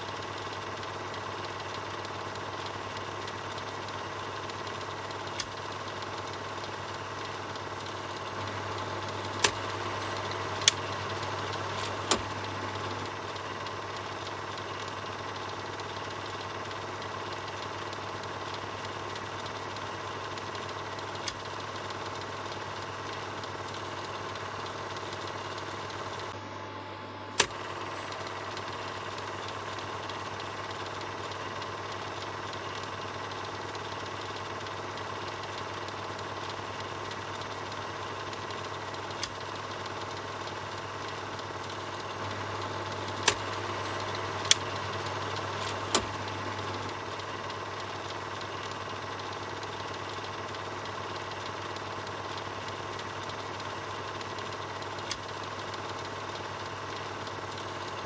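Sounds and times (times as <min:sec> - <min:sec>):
film projector whirring: 0:00.0 - 0:58.0
sharp clicks: 0:00.3 - 0:26.4, 0:27.4 - 0:58.0.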